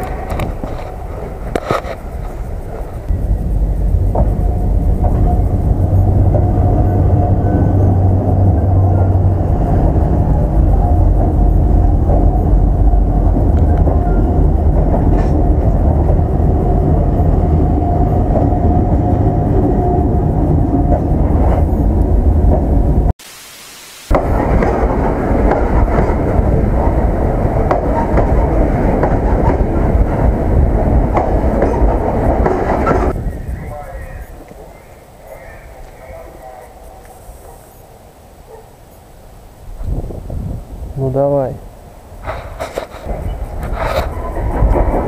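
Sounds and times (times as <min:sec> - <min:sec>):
train wheels rumbling on rail: 0:00.0 - 0:23.1, 0:24.1 - 0:37.8, 0:39.7 - 0:45.0.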